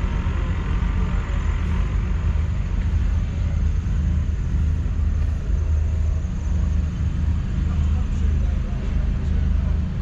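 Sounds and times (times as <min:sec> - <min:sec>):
tractor diesel engine droning: 0:00.0 - 0:10.0.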